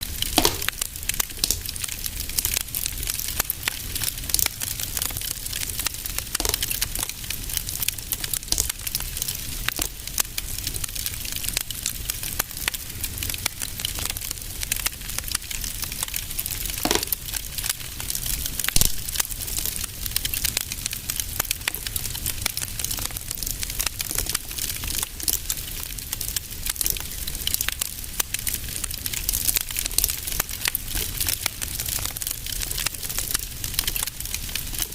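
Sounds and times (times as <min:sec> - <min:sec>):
fire crackling and popping: 0:00.0 - 0:34.9
low steady fire rumble: 0:00.0 - 0:34.9.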